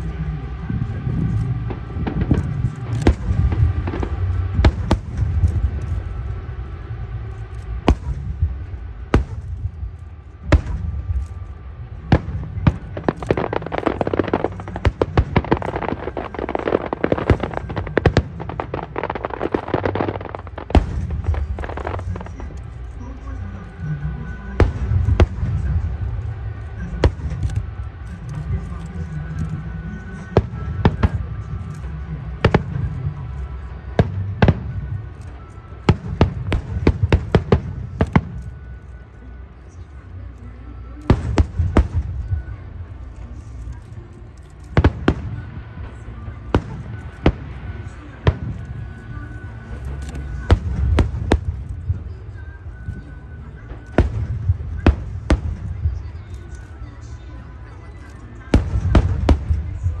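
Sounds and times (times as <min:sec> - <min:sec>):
continuous low rumble: 0:00.0 - 1:00.0
fireworks crackling: 0:00.0 - 1:00.0.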